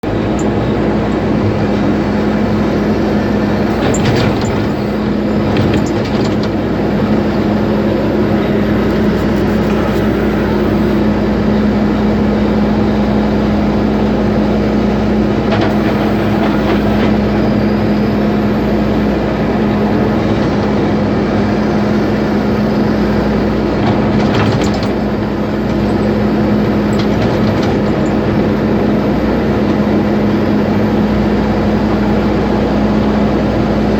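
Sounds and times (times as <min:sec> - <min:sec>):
machine running with low hum: 0:00.0 - 0:33.9.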